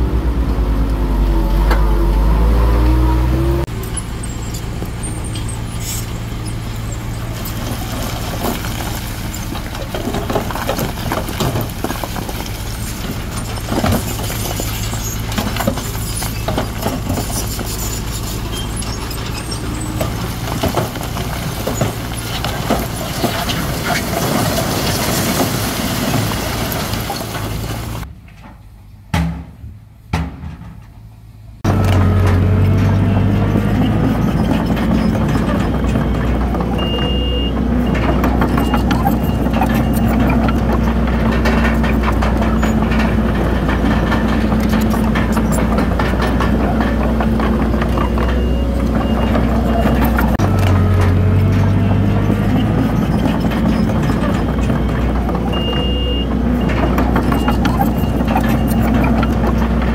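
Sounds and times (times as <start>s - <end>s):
heavy machinery engine drone: 0.0s - 59.9s
metallic clanks and squeaks: 1.4s - 29.5s, 30.4s - 59.9s.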